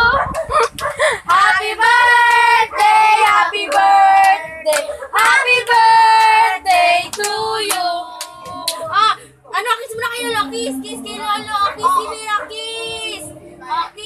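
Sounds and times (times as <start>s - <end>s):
women and children singing: 1.3s - 9.2s, 10.0s - 14.0s.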